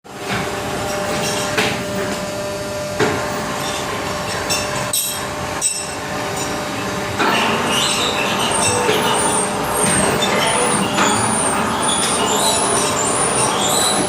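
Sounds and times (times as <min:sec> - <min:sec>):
machine mechanical hum: 0:00.1 - 0:14.0.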